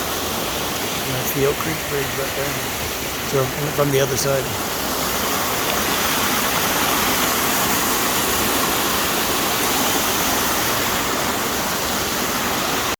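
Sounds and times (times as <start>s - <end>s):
creek rushing: 0.0s - 12.9s.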